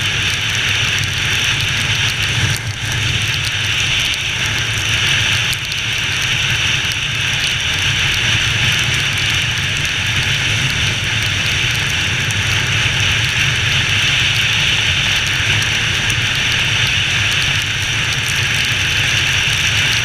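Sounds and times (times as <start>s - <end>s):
motorcycle engine running: 0.0s - 20.0s
wind and rain hiss: 0.0s - 20.0s.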